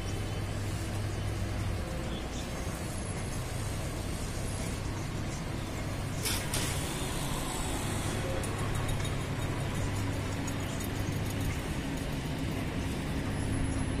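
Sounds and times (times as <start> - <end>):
train engine hum: 0.0 - 14.0.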